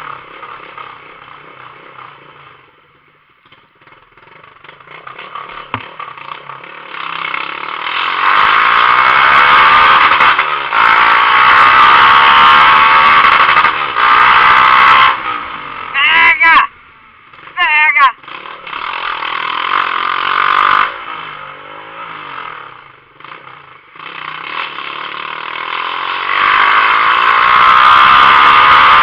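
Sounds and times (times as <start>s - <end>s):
motorcycle open exhaust: 0.0s - 29.0s.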